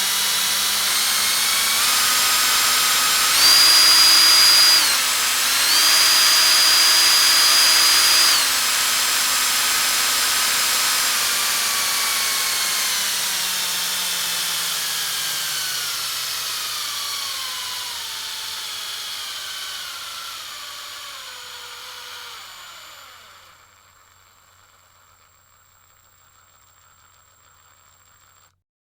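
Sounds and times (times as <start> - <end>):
power drill motor whining: 0.0 - 28.6.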